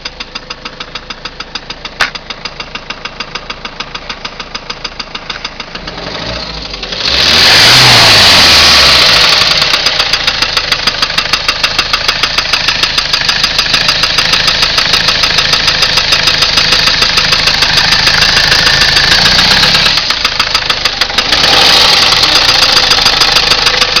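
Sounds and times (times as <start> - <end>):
diesel engine knocking and revving: 0.0 - 24.0.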